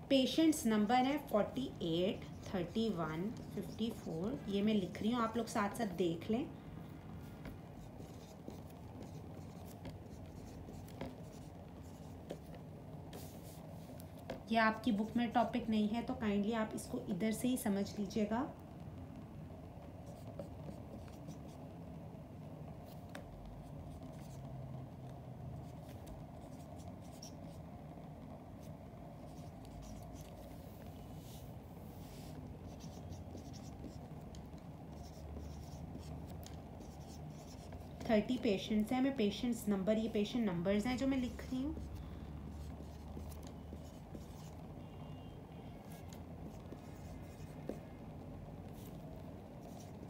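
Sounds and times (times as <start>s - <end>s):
low room hum: 0.0s - 50.0s
marker writing on whiteboard: 1.1s - 6.4s, 7.2s - 15.4s, 19.8s - 21.7s, 22.8s - 27.7s, 28.5s - 50.0s.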